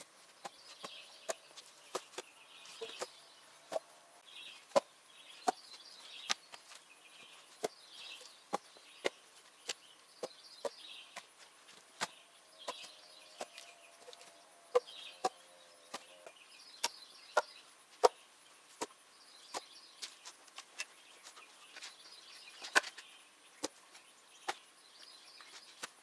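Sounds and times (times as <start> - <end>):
small bird singing: 0.0 - 26.0.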